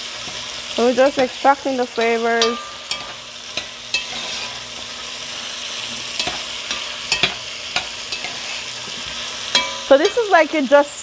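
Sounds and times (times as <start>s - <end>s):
vegetables sizzling in a pot: 0.0s - 11.0s
metal spoon scraping a pot: 1.2s - 10.3s.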